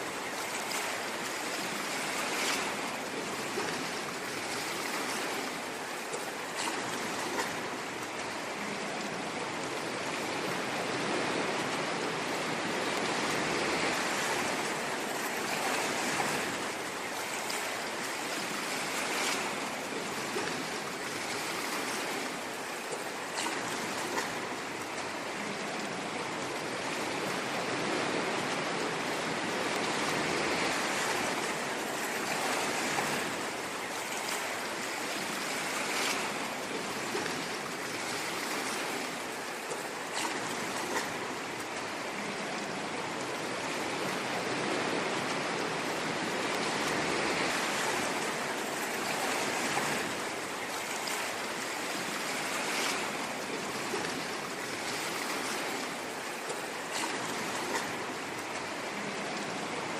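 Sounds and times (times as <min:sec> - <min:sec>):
ocean waves on shore: 0:00.0 - 0:59.9
small water splashes: 0:00.0 - 0:59.9.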